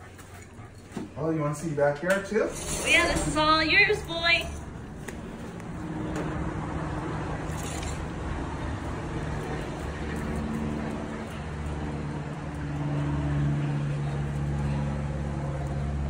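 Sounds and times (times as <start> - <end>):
low mechanical hum: 2.5 - 16.0.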